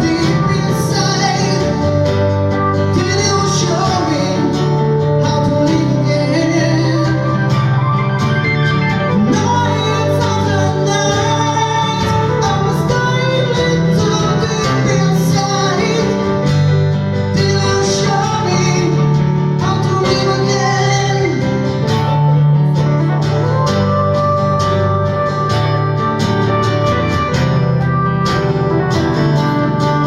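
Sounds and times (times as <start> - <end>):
bass line: 0.0 - 30.0
plucked guitar: 0.0 - 30.0.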